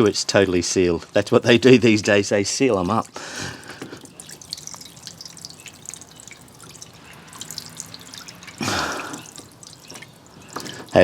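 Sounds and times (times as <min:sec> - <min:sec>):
water dripping and trickling: 0:00.0 - 0:11.0
water rushing: 0:00.0 - 0:11.0.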